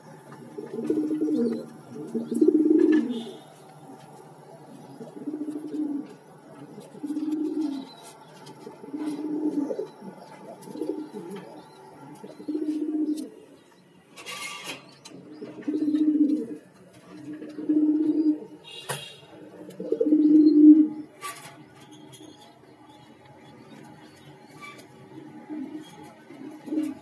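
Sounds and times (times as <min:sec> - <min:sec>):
pigeons cooing: 0:00.0 - 0:18.7, 0:19.3 - 0:21.3, 0:22.0 - 0:27.0.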